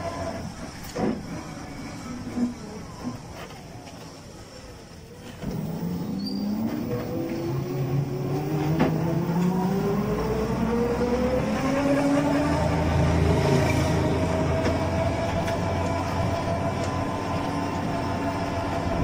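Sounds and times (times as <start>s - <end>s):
road rumble: 0.0s - 19.0s.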